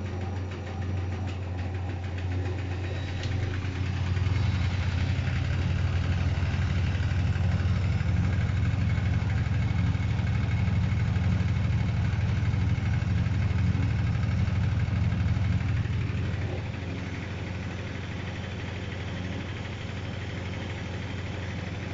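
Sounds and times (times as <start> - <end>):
washing machine humming: 0.0 - 21.9.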